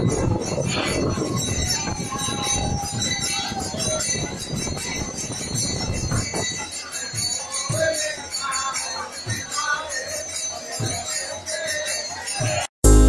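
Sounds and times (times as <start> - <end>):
crowd hubbub: 0.0 - 13.0
music with jingling bells: 0.0 - 13.0.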